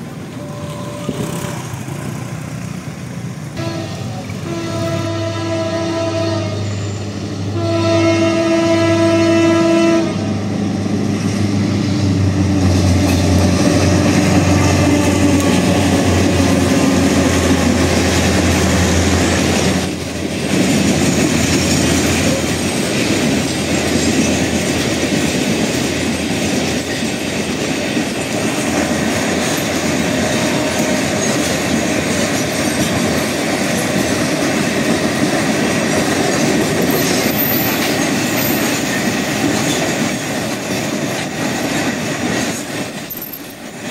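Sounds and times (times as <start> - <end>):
wheels rolling on rails: 0.0 - 4.4, 12.6 - 43.9
locomotive engine drone: 0.0 - 43.9.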